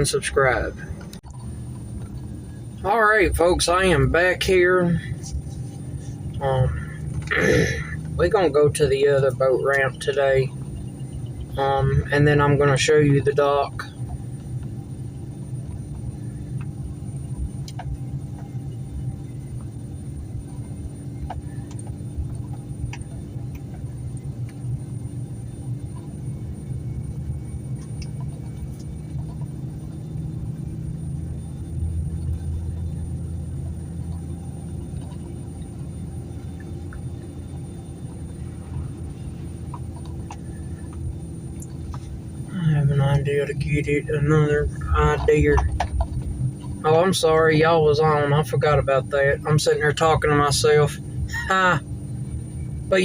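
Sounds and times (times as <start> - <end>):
road noise: 0.0 - 53.0
vehicle engine rumble: 0.0 - 53.0.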